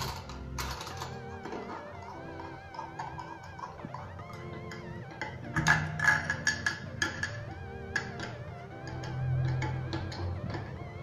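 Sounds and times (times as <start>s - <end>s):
wavering vibrato melody: 0.0s - 11.0s.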